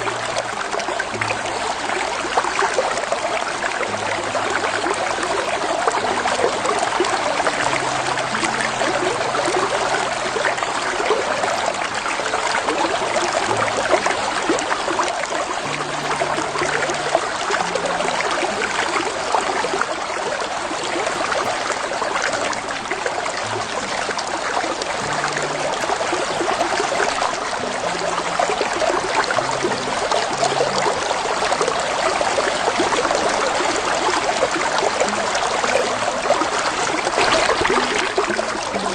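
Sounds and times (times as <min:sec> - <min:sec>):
creek flowing over rocks: 0:00.0 - 0:38.9.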